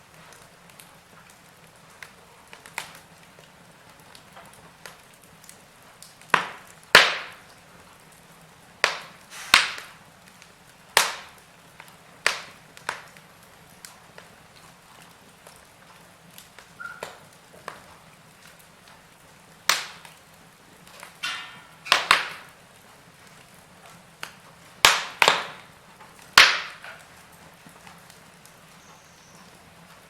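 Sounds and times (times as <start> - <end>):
faint steady hiss: 0.0 - 30.0
fire crackling: 0.0 - 30.0
sharp pops from fire: 0.0 - 30.0.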